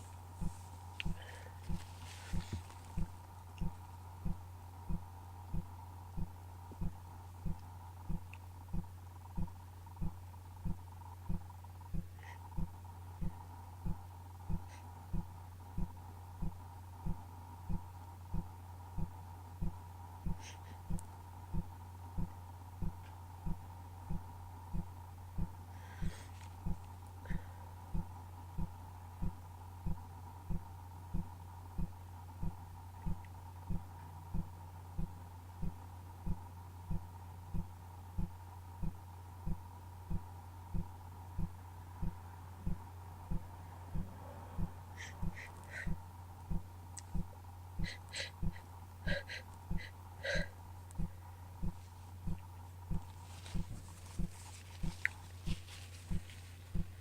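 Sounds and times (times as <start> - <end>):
faint hiss: 0.0 - 57.0
soft low thumps: 0.0 - 57.0
steady low hum: 0.0 - 57.0.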